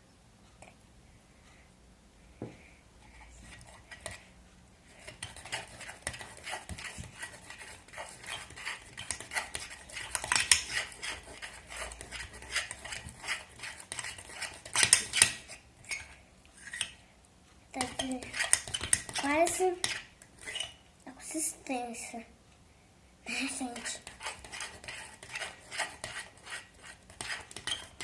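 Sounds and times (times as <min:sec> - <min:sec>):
utensil stirring slime: 0:03.1 - 0:17.0, 0:17.7 - 0:21.5, 0:23.3 - 0:28.0.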